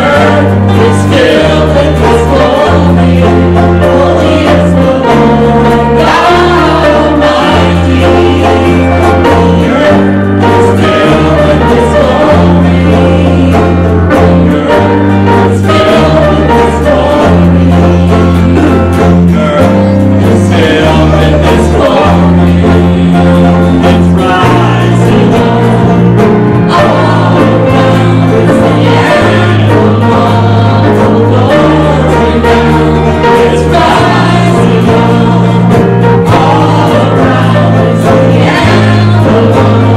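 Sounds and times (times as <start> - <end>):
band playing worship music: 0.0 - 39.9
sustained bass notes: 0.0 - 39.9
voices singing together: 0.0 - 39.9.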